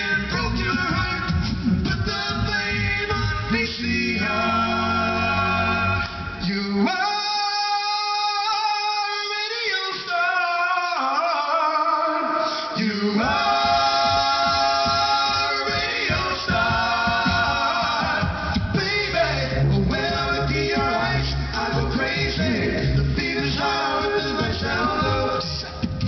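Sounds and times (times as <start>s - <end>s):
male a cappella harmony singing: 0.0s - 26.0s.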